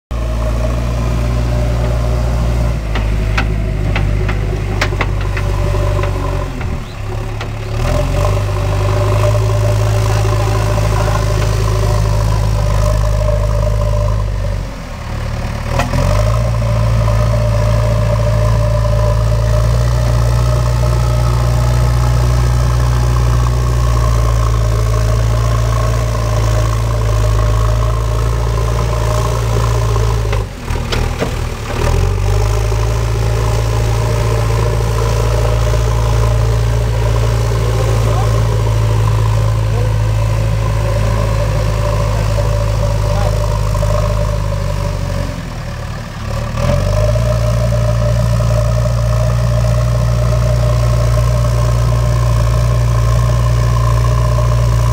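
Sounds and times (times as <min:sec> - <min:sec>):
diesel engine running: 0:00.1 - 0:54.9.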